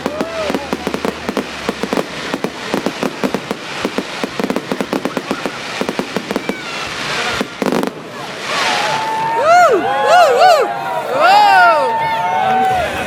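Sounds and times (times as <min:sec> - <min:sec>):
fireworks bangs and crackles: 0:00.0 - 0:10.7.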